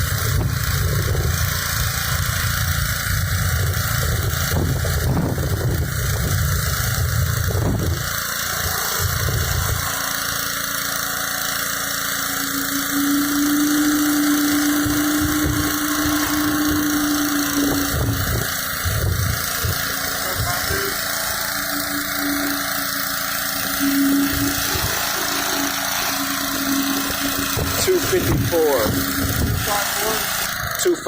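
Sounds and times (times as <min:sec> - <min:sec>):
pressure washer engine running: 0:00.0 - 0:31.0
steady whine: 0:00.0 - 0:31.0
water jet hissing on concrete: 0:00.0 - 0:31.0.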